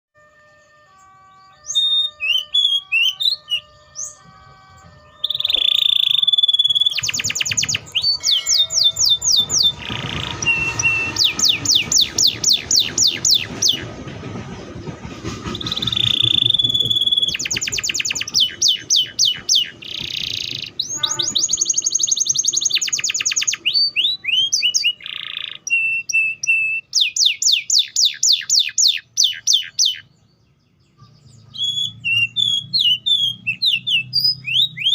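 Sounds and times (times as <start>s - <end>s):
canary singing trills: 1.0s - 4.2s, 5.0s - 13.9s, 15.6s - 34.9s.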